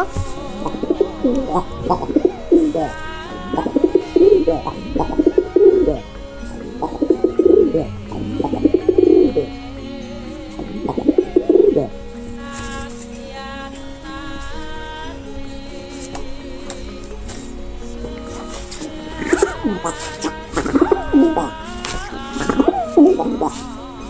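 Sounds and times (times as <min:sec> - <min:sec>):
background music: 0:00.0 - 0:24.0
pigeons cooing: 0:00.0 - 0:24.0.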